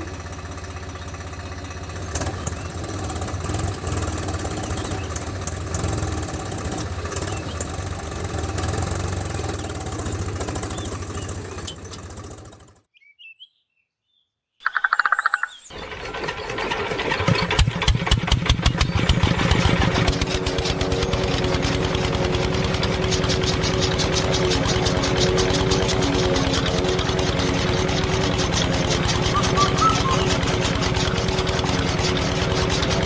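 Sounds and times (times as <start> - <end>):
small engine running: 0.0 - 12.9, 15.7 - 33.0.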